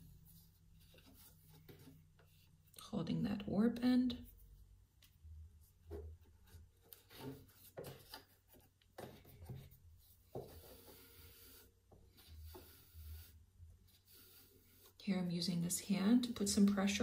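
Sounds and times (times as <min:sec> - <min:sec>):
yarn rustling through loom strings: 0:00.0 - 0:02.8, 0:04.2 - 0:16.9.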